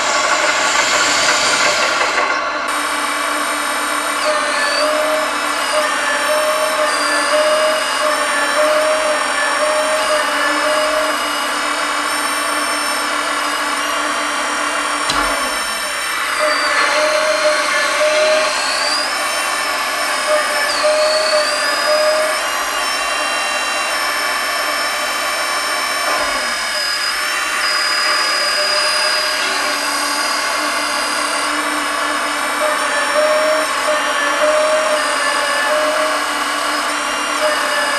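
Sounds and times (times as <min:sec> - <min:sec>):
hydraulic pump whining: 0:00.0 - 0:37.9
simulated diesel engine: 0:00.0 - 0:37.9.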